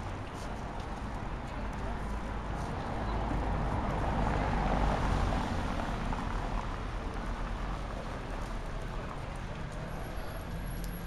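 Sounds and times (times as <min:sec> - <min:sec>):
vehicle rumble and tyre hiss: 0:00.0 - 0:11.0.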